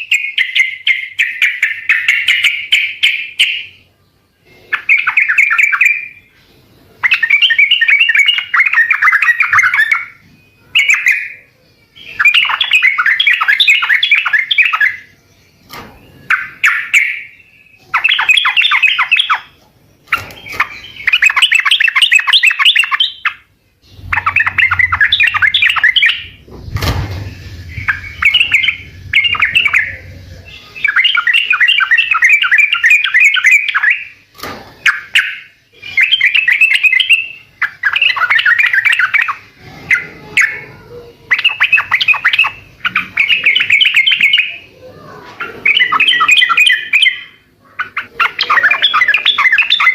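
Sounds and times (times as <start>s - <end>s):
bird singing chattering notes: 0.0s - 49.9s.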